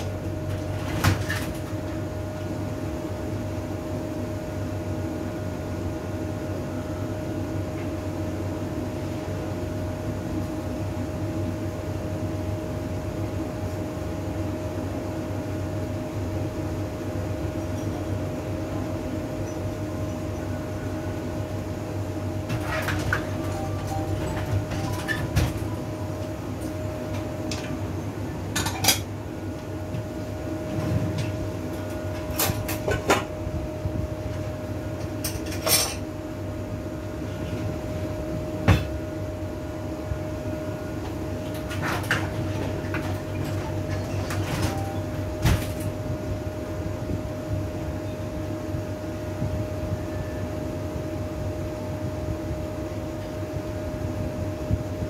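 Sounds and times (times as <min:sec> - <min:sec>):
steady humming background: 0:00.0 - 0:55.0.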